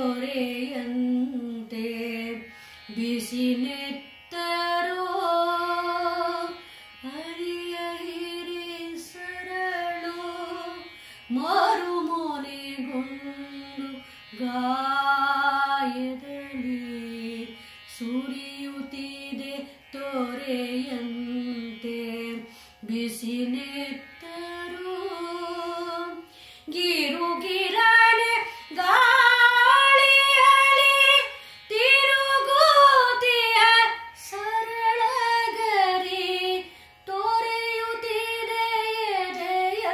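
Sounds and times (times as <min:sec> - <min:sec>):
woman singing unaccompanied: 0:00.0 - 0:39.9.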